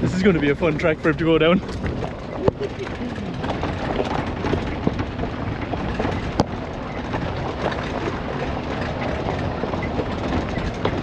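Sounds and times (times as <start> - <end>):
body rattles and knocks: 0.0 - 11.0
car engine and drivetrain noise: 0.0 - 11.0.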